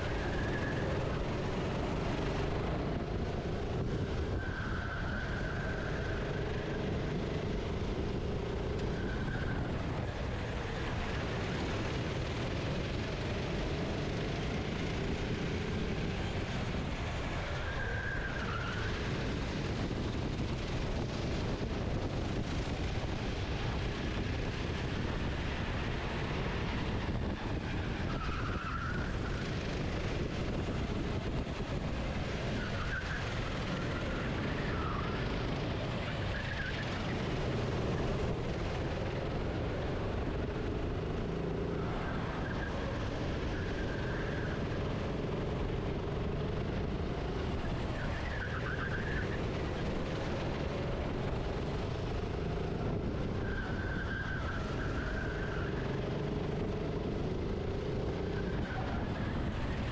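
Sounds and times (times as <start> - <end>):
kart engine and wind rush: 0.0 - 59.9.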